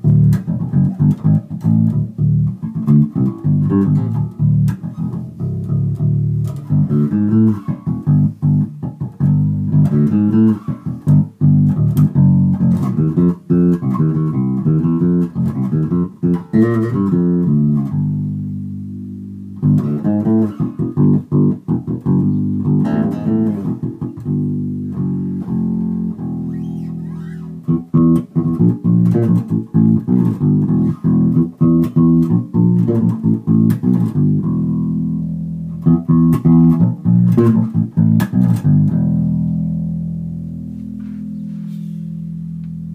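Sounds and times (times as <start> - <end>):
electric bass played fingerstyle: 0.0 - 42.9.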